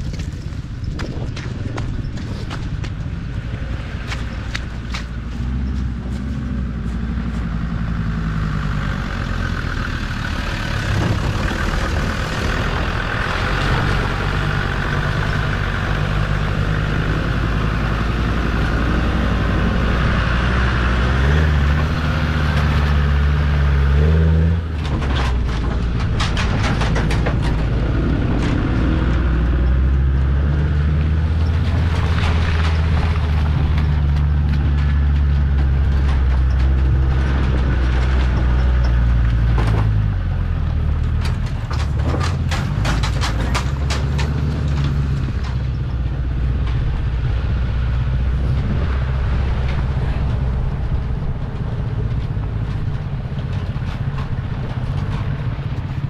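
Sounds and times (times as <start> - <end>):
off-road vehicle engine pulling: 0.0 - 56.0.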